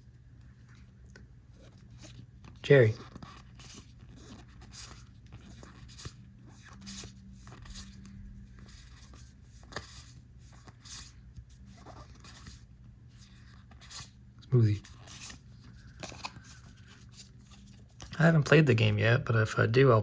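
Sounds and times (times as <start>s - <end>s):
low room hum: 0.0s - 20.0s
cards scraping card on card: 1.6s - 18.2s.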